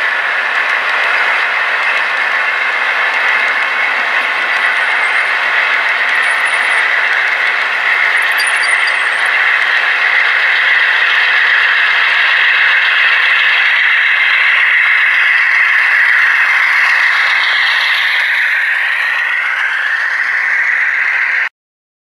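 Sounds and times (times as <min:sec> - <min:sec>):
model train rattling on track: 0:00.0 - 0:21.5
whining locomotive tones: 0:00.0 - 0:21.5.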